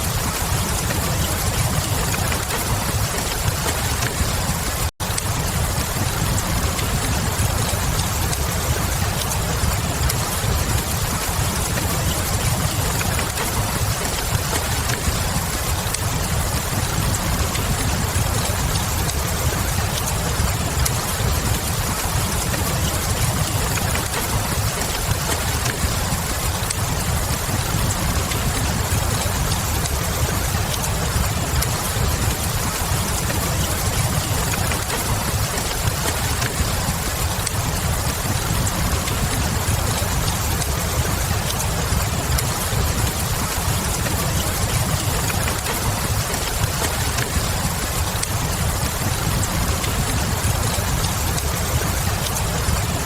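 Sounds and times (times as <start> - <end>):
steady rain: 0.0 - 53.0
wood fire crackling: 0.0 - 53.0.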